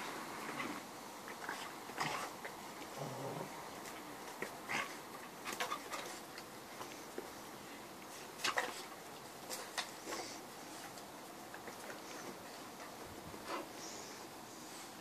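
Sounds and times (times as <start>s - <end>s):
dogs scuffling and mouthing: 0.0s - 15.0s.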